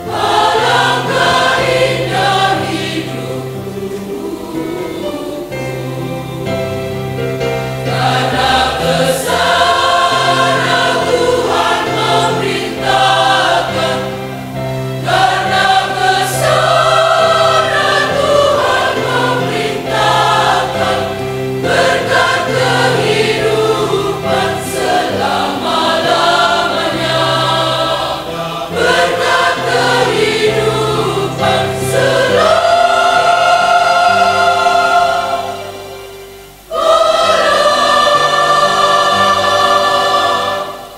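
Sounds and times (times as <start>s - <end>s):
women's choir singing a hymn: 0.0s - 40.9s.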